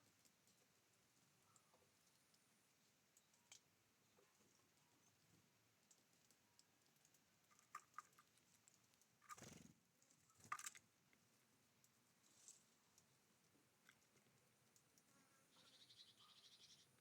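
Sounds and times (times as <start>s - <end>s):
small birds clicking and tapping: 0.0s - 17.0s.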